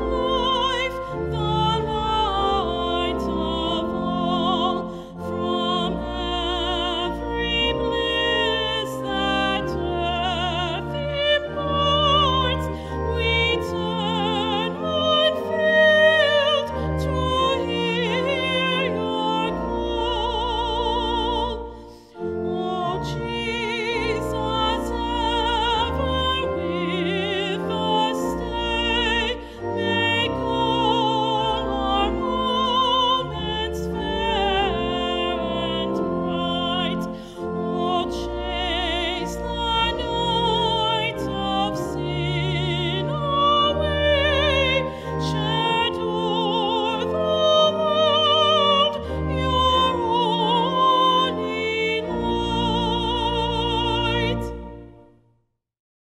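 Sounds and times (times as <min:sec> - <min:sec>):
woman singing classical solo: 0:00.0 - 0:54.5
organ accompaniment: 0:00.0 - 0:55.2.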